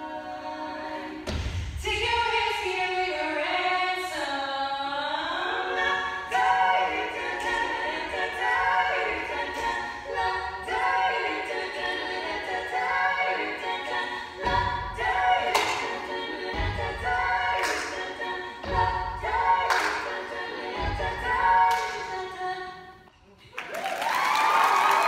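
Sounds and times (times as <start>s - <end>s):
a cappella close harmony singing: 0.0s - 23.1s.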